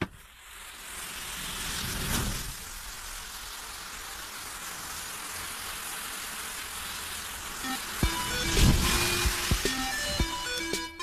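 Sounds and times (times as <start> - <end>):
matches burning with crackling hiss: 0.0 - 11.0.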